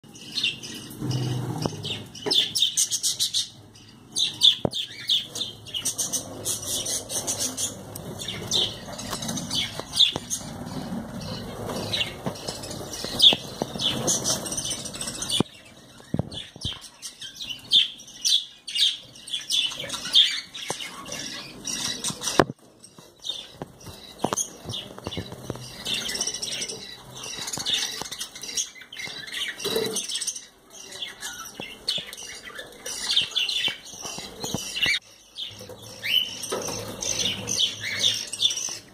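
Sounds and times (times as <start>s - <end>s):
budgerigars chirping: 0.1s - 38.9s.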